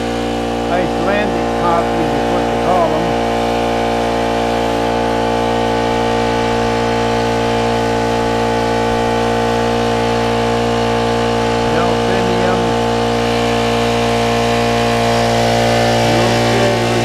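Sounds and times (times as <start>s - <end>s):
water pump engine running: 0.0s - 17.0s.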